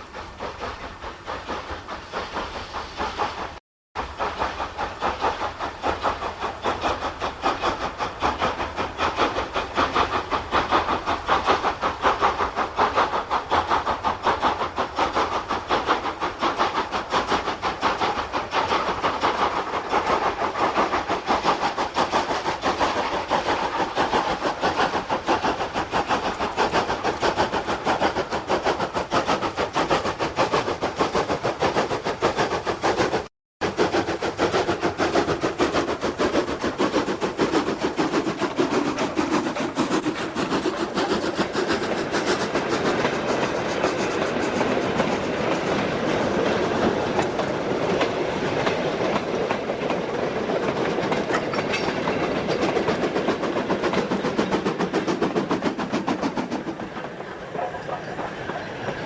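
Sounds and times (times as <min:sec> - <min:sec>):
steam locomotive exhaust beat: 0:00.0 - 0:59.0.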